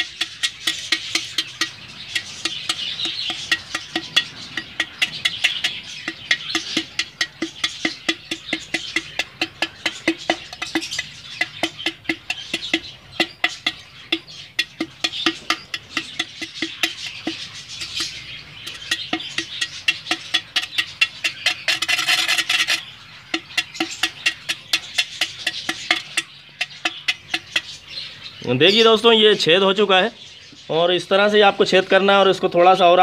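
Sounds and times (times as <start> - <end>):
iron rod tapping clay pot: 0.0 - 28.1.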